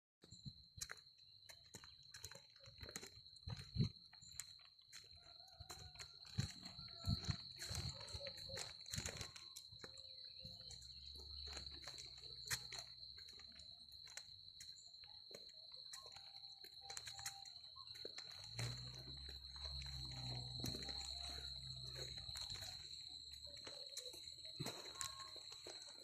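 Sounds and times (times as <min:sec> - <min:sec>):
insects droning: 0:00.3 - 0:26.0.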